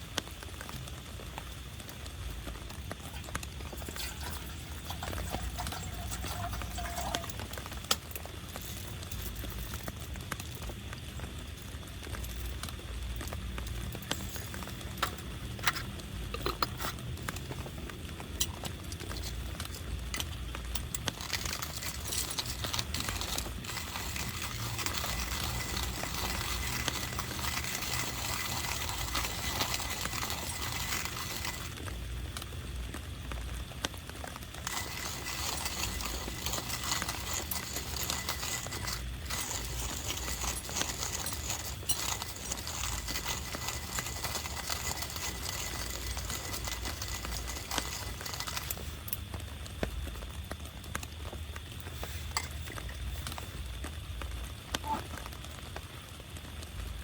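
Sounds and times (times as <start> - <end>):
rain pattering on a tarp: 0.0 - 57.0.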